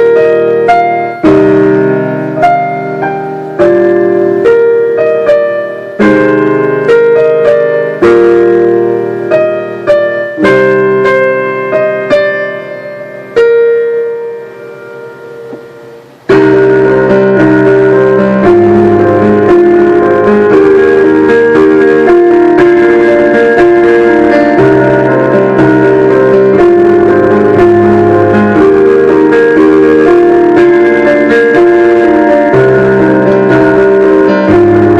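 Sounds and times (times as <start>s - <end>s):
solo piano playing: 0.0s - 34.9s.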